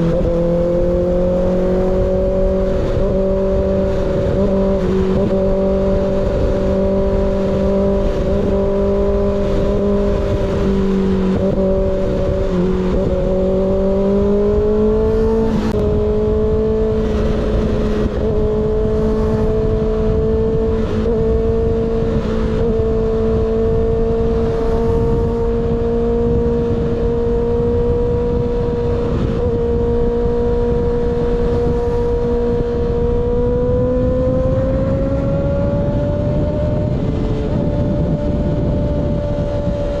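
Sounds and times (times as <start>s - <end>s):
motorcycle engine at high revs: 0.0s - 40.0s
wind rush on microphone: 0.0s - 40.0s.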